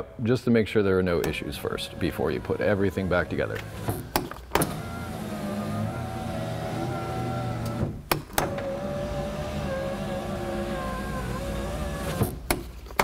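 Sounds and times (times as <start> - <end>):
power window motor humming: 1.4 - 12.4.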